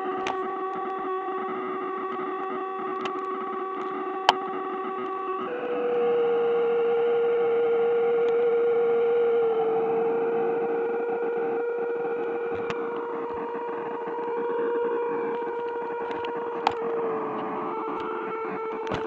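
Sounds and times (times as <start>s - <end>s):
electronic droning tones: 0.0s - 19.0s.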